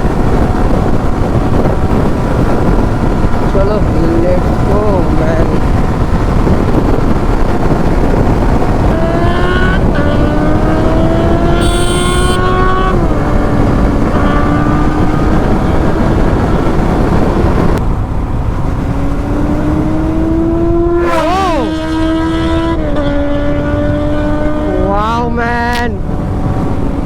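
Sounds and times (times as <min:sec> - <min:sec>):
motorcycle engine revving: 0:00.0 - 0:27.0
wind noise on microphone: 0:00.0 - 0:27.0.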